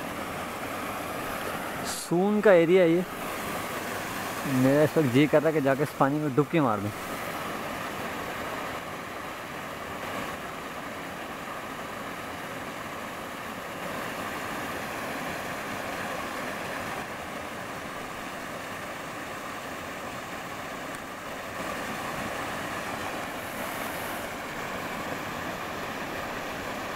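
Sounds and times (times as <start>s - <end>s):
waterfalls splashing over boulders: 0.0s - 26.9s.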